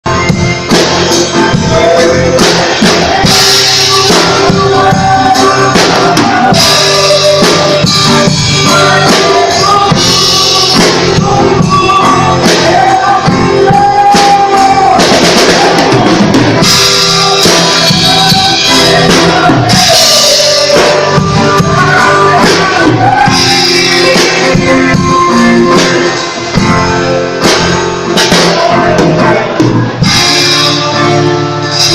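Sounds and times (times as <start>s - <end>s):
drum kit beat: 0.1s - 31.9s
person singing: 0.1s - 31.9s.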